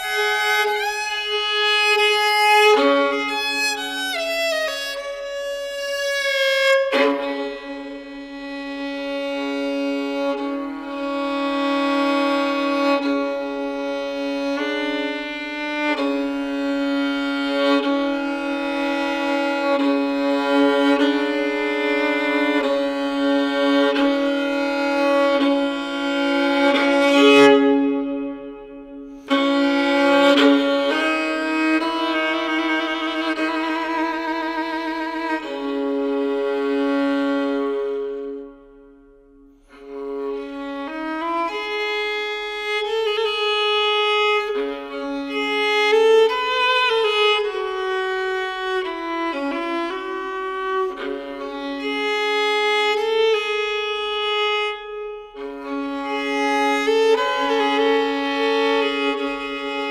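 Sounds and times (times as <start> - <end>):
solo violin double stops: 0.0 - 38.6, 39.6 - 59.9.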